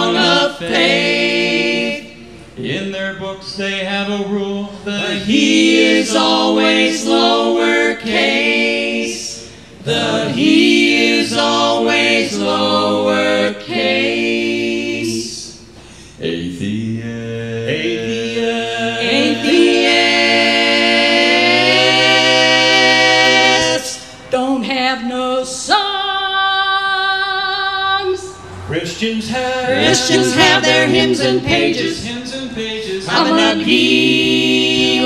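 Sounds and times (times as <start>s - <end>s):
choir singing close harmony: 0.0s - 2.9s, 4.1s - 24.2s, 27.3s - 35.0s.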